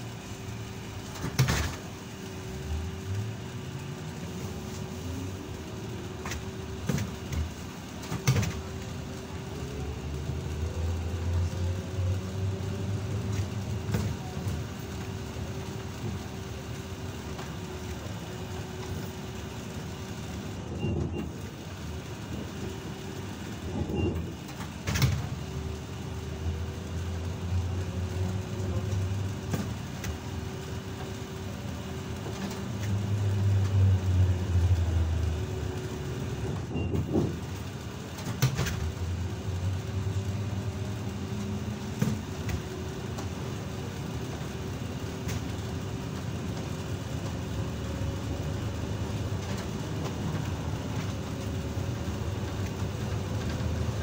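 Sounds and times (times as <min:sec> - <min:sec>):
trolleybus electrical hum: 0:00.0 - 0:54.0.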